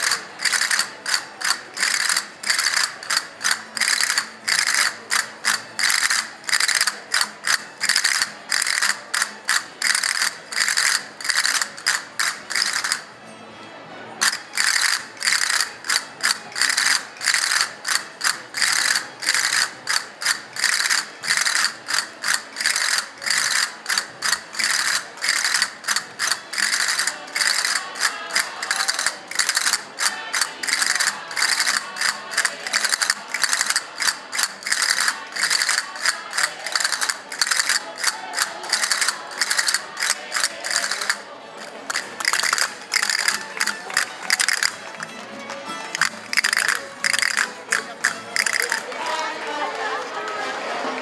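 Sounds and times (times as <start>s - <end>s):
wooden hand percussion clacking: 0.0s - 13.1s, 14.2s - 49.1s.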